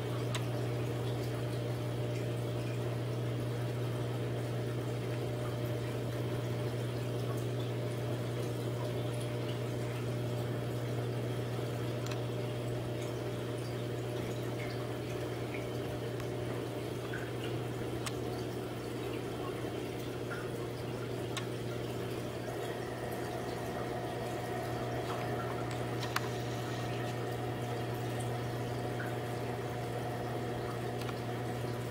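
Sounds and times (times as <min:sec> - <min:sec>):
circulating water: 0:00.0 - 0:31.9
water pump humming: 0:00.0 - 0:31.9.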